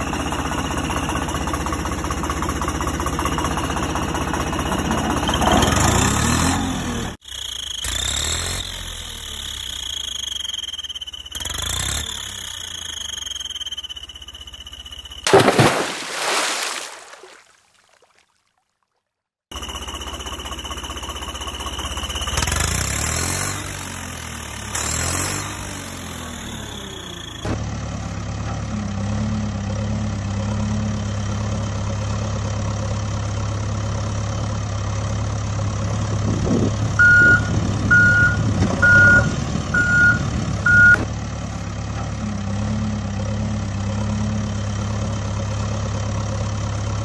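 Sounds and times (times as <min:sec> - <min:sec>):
tractor engine idling: 0:00.0 - 0:15.2, 0:19.5 - 0:47.0.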